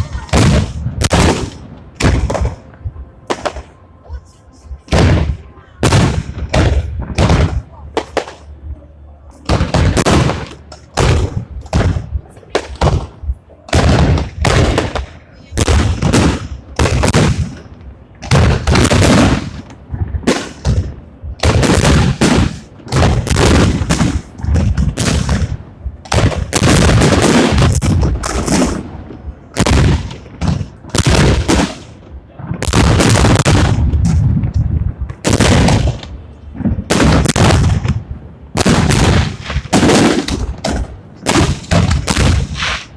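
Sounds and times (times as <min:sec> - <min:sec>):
fireworks bursting in loud bangs: 0:00.0 - 0:03.8, 0:04.9 - 0:08.5, 0:09.4 - 0:42.9.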